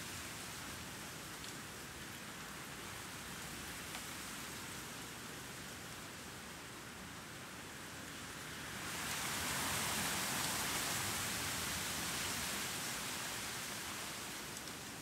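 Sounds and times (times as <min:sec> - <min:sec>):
light city noise: 0:00.0 - 0:15.0.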